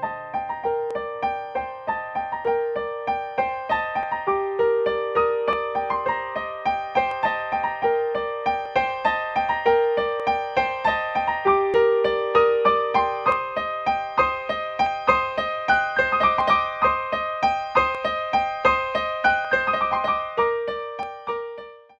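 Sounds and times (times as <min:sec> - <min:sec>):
light keyboard melody: 0:00.0 - 0:22.0.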